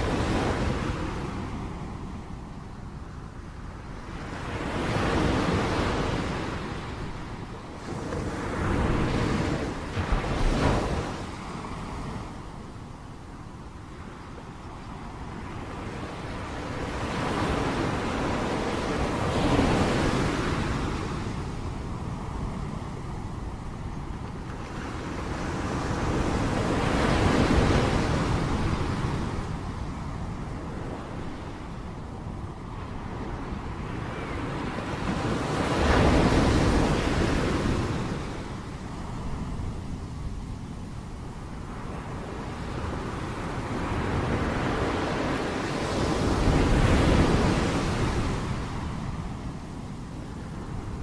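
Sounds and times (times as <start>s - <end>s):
ocean surf breaking on beach: 0.0s - 51.0s.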